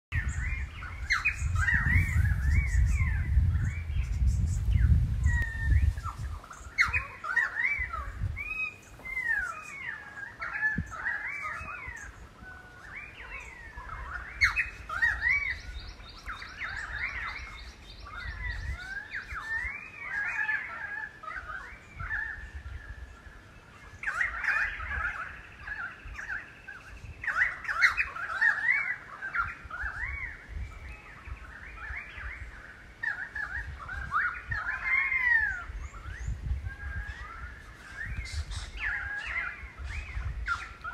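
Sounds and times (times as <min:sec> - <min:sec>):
birds calling: 0:00.1 - 0:40.9.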